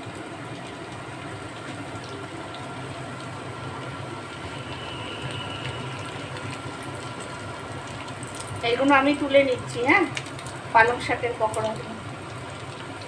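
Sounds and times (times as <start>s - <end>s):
fritters sizzling in hot oil: 0.0s - 13.0s.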